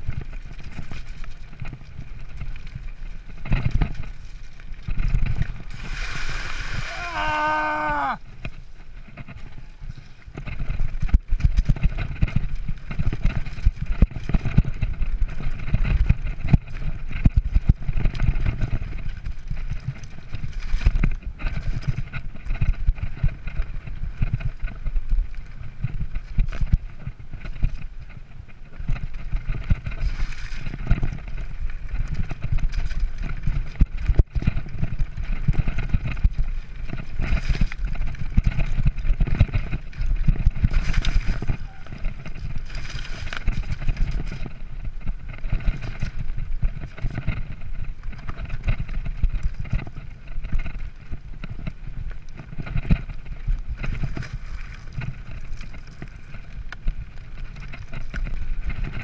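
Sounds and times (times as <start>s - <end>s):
bike rattling: 0.0s - 59.0s
wind rumble on microphone: 0.0s - 59.0s
tyres crunching over rock: 0.1s - 59.0s.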